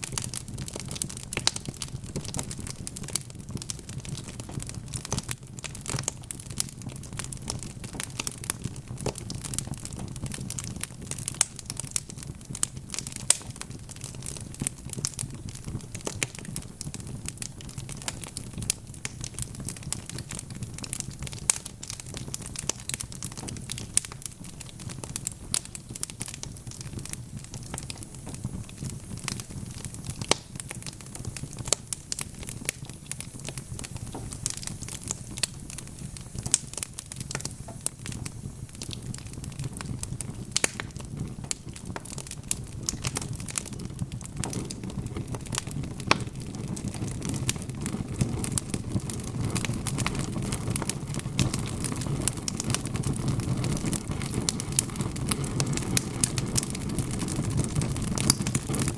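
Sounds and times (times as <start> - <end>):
burning logs crackling: 0.0 - 58.9.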